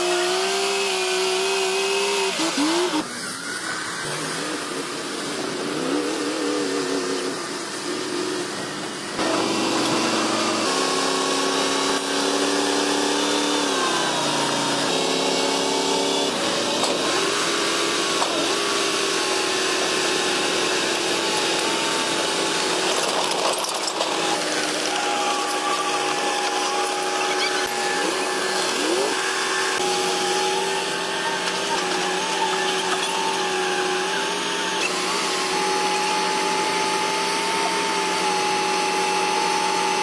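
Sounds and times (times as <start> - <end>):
heavy diesel engines revving: 0.0 - 39.1.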